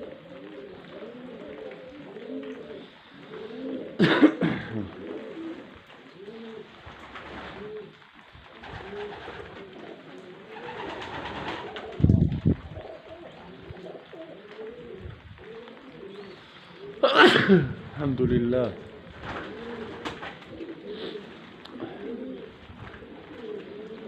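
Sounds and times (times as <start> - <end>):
pigeons cooing: 0.0 - 24.0
rain hissing: 0.0 - 24.0.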